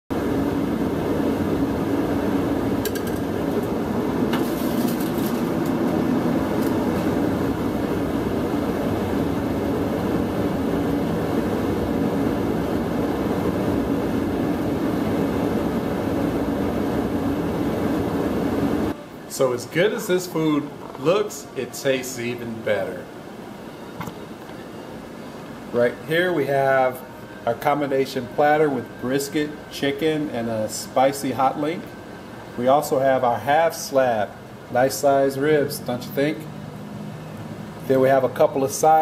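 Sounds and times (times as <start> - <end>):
loud machine hum: 0.1 - 39.0.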